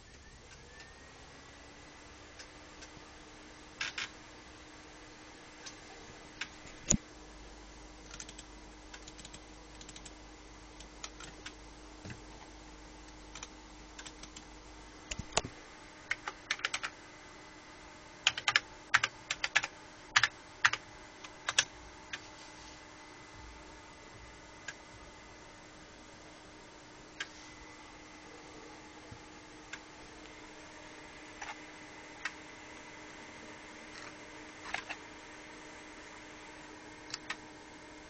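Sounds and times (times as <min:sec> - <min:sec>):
faint electrical hum: 0:00.0 - 0:38.0.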